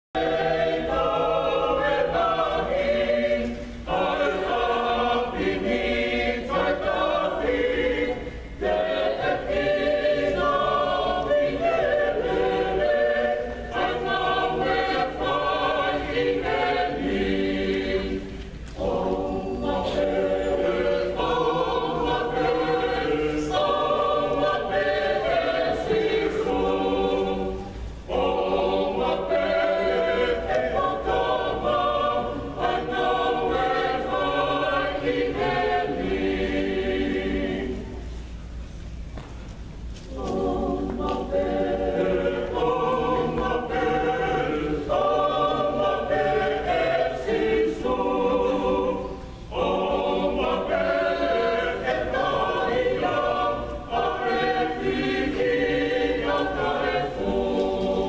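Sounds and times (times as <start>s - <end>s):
choir singing a cappella: 0.0s - 38.7s, 39.6s - 58.0s.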